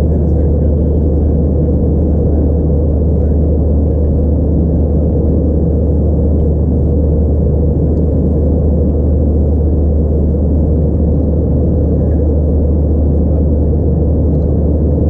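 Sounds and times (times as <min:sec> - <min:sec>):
airplane cabin engine hum: 0:00.0 - 0:15.0.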